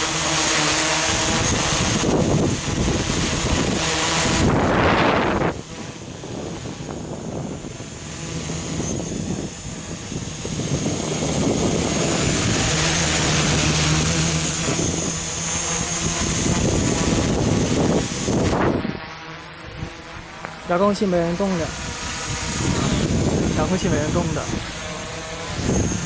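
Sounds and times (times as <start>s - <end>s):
quadcopter propellers buzzing: 0.0s - 26.0s.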